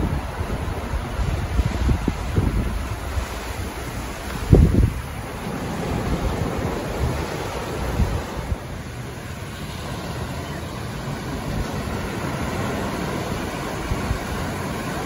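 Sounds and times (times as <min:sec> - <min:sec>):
ocean waves on beach: 0:00.0 - 0:15.0
wind buffeting microphone: 0:00.0 - 0:15.0.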